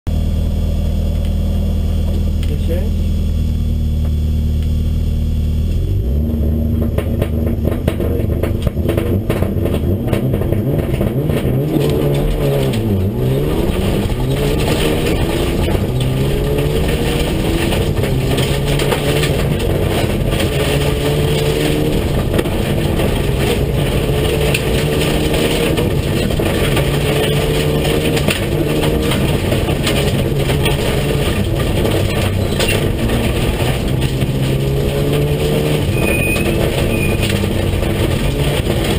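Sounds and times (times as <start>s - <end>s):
rally car engine accelerating: 0.1s - 38.9s
gravel rattling against car: 5.5s - 38.9s.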